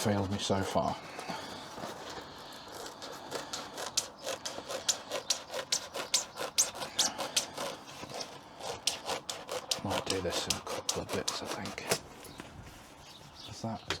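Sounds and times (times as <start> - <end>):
scratchy rubbing of insulation material: 0.0 - 13.7.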